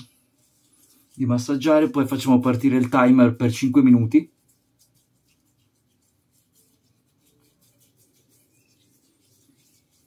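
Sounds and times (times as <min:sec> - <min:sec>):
hands rubbing a beard: 0:00.0 - 0:10.0.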